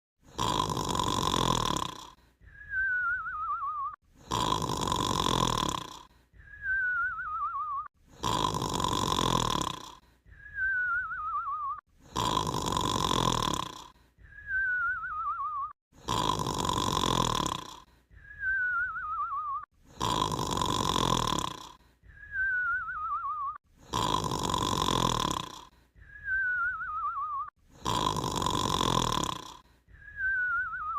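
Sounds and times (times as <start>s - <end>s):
person snoring: 0.2s - 26.8s, 27.6s - 30.8s.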